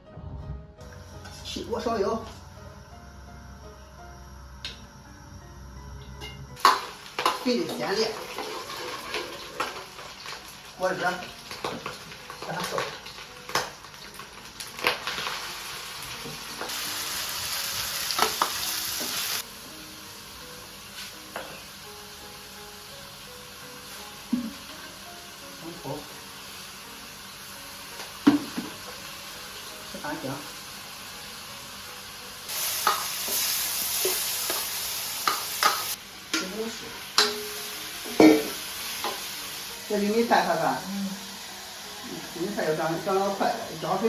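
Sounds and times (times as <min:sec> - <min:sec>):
food sizzling in hot oil: 0:00.9 - 0:44.0.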